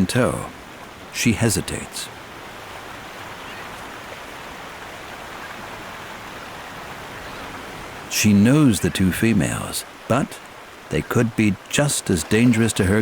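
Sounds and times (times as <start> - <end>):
water flowing: 0.0 - 13.0.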